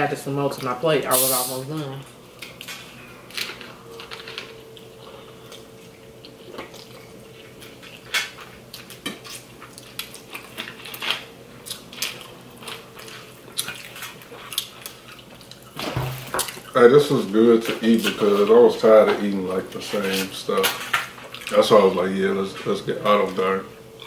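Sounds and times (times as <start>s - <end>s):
faint steady hum: 0.0s - 24.0s
people chewing and slurping: 2.4s - 24.0s.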